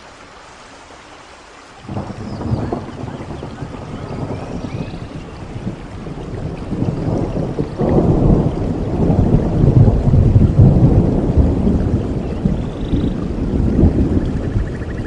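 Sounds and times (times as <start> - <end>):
rain: 0.0 - 15.0
low rumble of thunder: 1.8 - 15.0.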